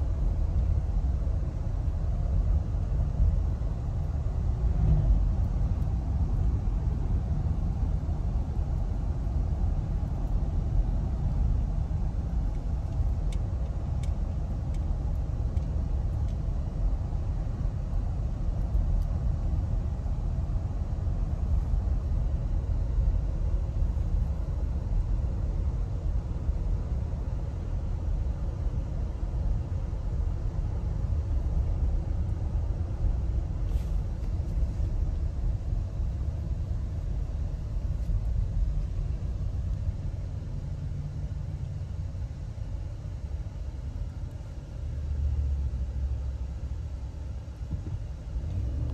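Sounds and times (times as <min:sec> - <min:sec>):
road noise inside car: 0:00.0 - 0:48.9.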